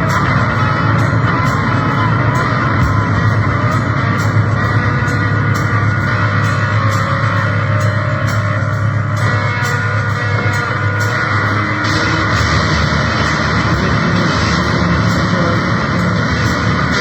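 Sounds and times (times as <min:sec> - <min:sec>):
distorted guitar noise music: 0:00.0 - 0:17.0.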